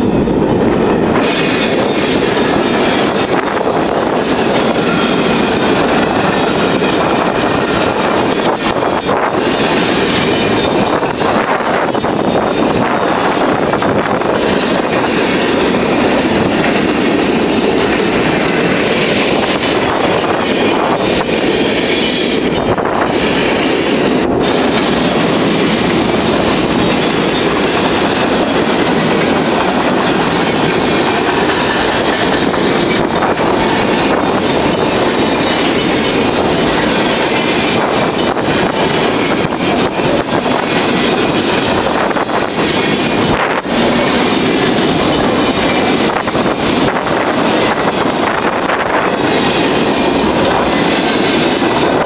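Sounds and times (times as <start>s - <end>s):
train wheels clacking on rails: 0.0s - 52.0s.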